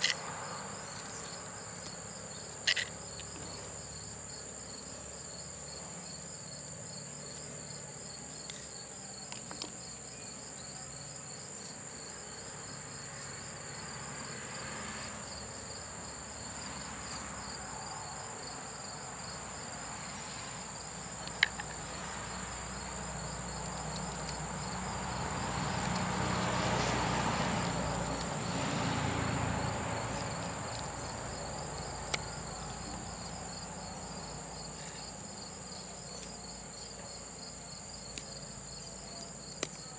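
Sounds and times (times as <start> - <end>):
insects pulsing chirp: 0.0 - 39.9
insects trilling: 0.0 - 39.9.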